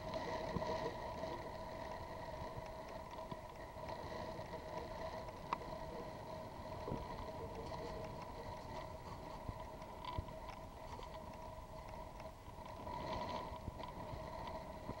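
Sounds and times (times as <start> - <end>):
boat motor humming: 0.0 - 15.0
water rumbling against hull: 0.0 - 15.0.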